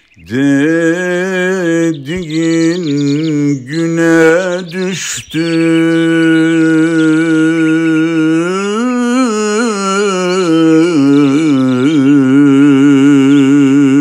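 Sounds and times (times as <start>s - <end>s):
person singing wordless melody: 0.0s - 14.0s.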